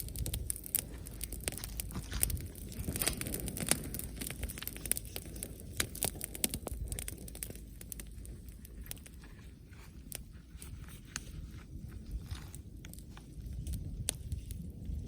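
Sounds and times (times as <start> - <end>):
low rumble: 0.0 - 15.0
wood crackling and snapping: 0.0 - 15.0.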